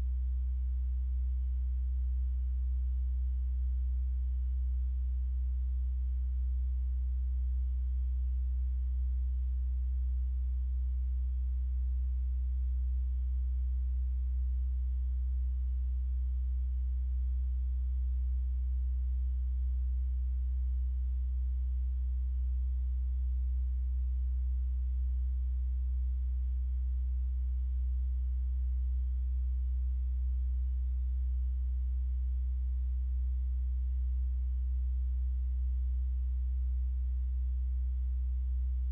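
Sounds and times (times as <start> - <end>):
low-pitched hum: 0.0 - 38.9.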